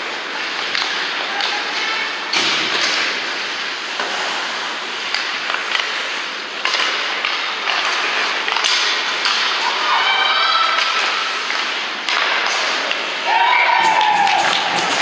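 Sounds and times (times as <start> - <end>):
hockey sticks and puck clacking: 0.0 - 15.0
skates scraping ice: 0.0 - 15.0.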